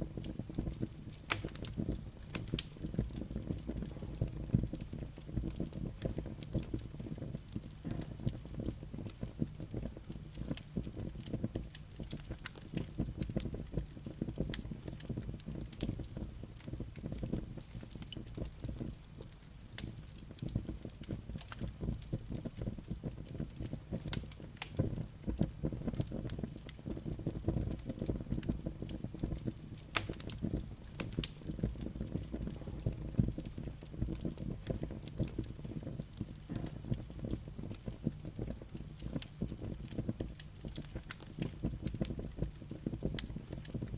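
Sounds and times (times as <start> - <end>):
fire crackling and popping: 0.0 - 43.9
fire flames rumbling: 0.0 - 43.9.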